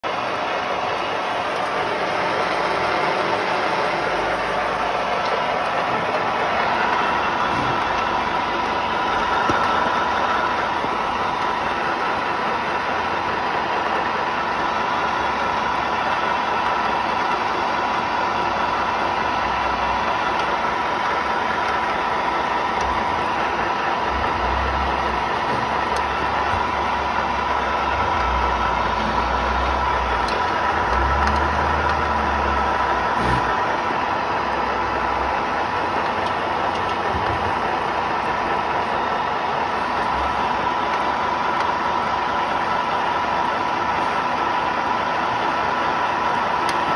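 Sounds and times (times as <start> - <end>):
pellet mill running: 0.0 - 46.9.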